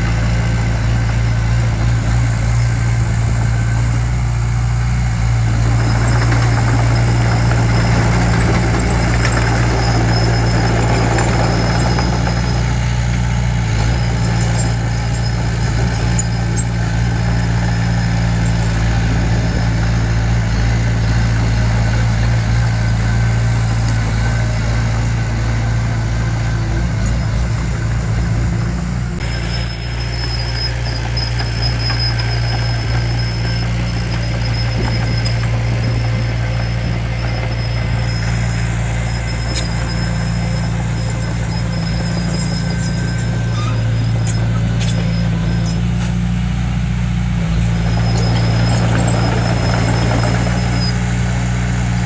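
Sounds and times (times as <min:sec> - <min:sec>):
diesel engine running steadily: 0:00.0 - 0:52.0.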